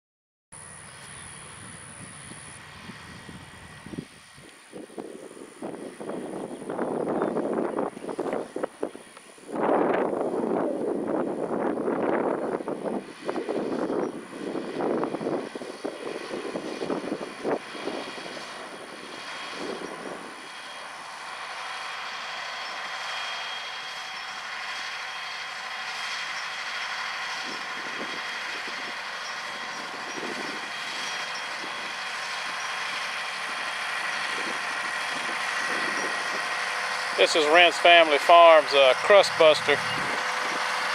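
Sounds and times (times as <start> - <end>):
faint steady whine: 0.6 - 40.9
tractor engine running: 0.6 - 40.9.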